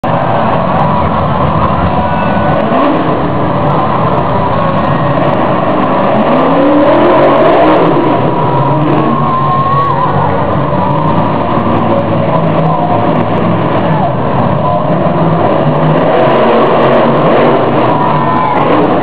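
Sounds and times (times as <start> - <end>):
monster truck engines revving: 0.0 - 19.0.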